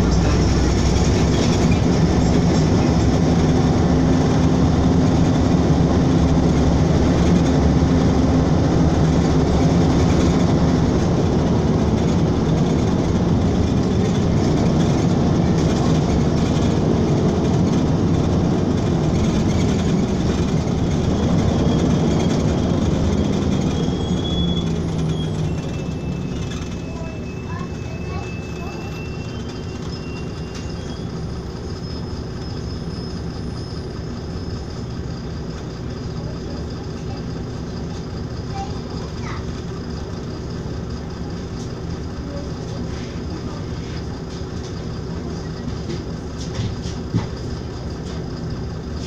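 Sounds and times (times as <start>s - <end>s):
bus engine drone: 0.0s - 49.0s
road and body noise: 0.0s - 49.0s.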